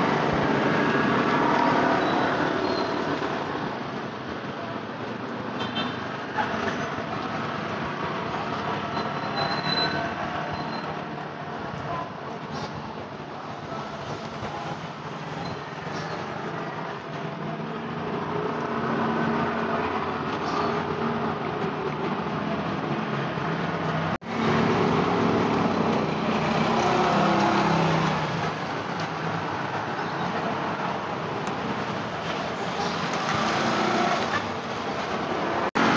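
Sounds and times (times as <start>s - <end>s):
traffic on wet road: 0.0s - 35.9s.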